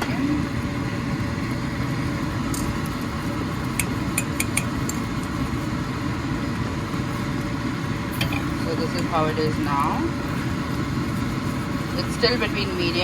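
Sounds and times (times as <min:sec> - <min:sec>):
gravy boiling in a pan: 0:00.0 - 0:13.0.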